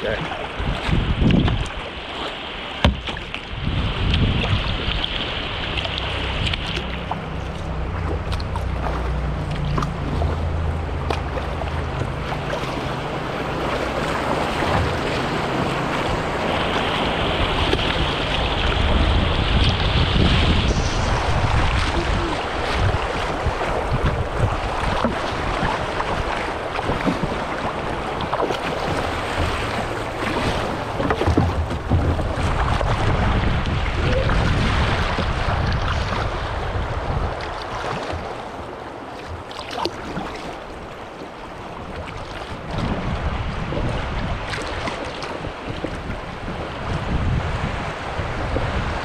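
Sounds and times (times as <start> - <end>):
wind buffeting microphone: 0.0 - 2.0, 2.7 - 40.9, 41.5 - 49.0
river water rushing and splashing: 0.0 - 49.0.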